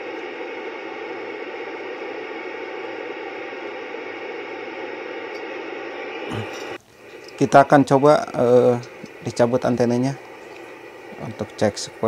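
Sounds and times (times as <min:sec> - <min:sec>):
radio receiver hiss: 0:00.0 - 0:12.0.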